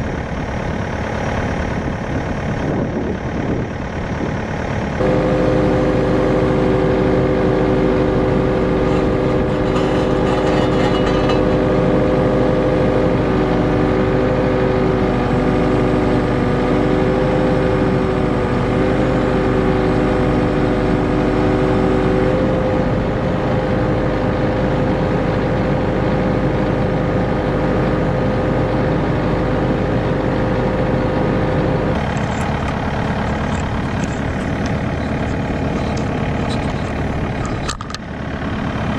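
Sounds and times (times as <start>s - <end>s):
diesel excavator engine running: 0.0s - 38.9s
steady whine: 0.0s - 38.9s.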